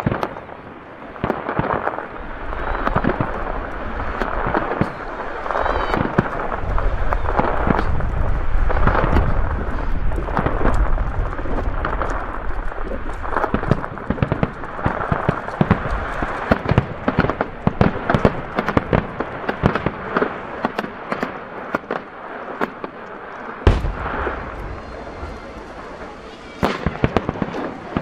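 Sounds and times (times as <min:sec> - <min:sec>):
fireworks bangs and crackle: 0:00.0 - 0:28.0.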